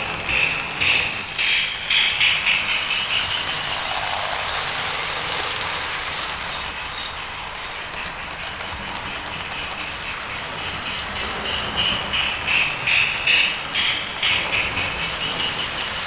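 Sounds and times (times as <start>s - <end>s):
toy train wheels rattling: 0.3s - 16.0s.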